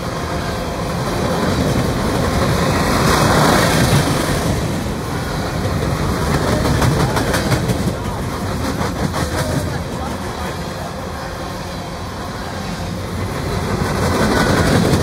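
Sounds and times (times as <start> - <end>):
freight train rolling past: 0.0 - 15.0
steel wheels on rails: 0.0 - 15.0.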